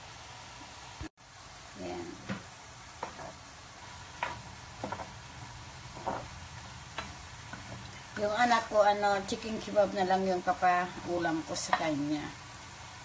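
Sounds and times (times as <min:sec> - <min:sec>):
pan sizzling: 0:00.0 - 0:13.0.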